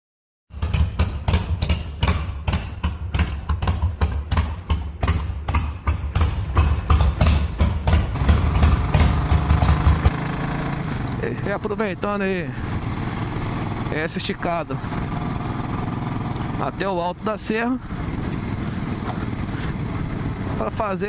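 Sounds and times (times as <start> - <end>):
motorcycle engine idling: 0.5 - 20.8.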